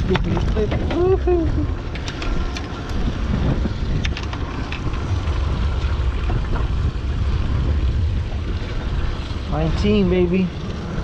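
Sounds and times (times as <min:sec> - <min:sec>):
boat engine low rumble: 0:00.0 - 0:11.0
wind buffeting microphone: 0:00.0 - 0:11.0.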